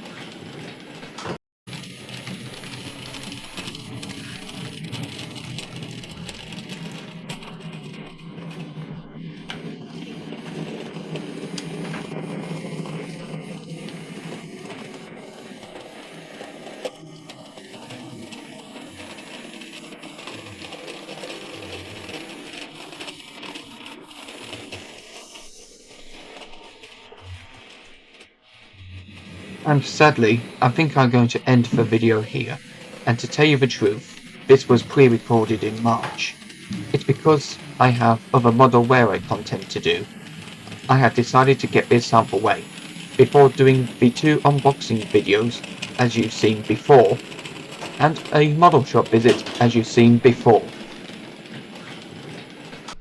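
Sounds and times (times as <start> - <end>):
wheels clicking over track: 0.0 - 28.2, 29.1 - 53.0
model train whirring on rails: 0.0 - 53.0
electric motor humming: 1.7 - 53.0.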